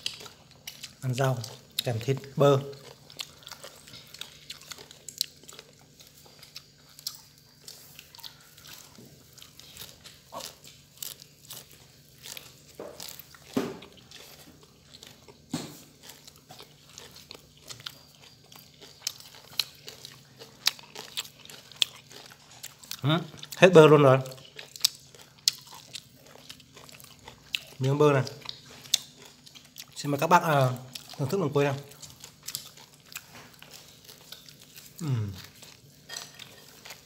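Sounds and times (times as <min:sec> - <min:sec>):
herbs rustling: 0:00.0 - 0:37.0
people crunching and chewing: 0:00.0 - 0:37.0.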